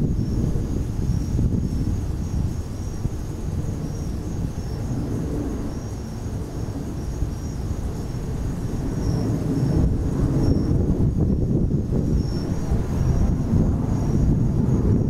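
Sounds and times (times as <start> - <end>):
crickets chirping: 0.0 - 15.0
wind buffeting microphone: 0.0 - 15.0.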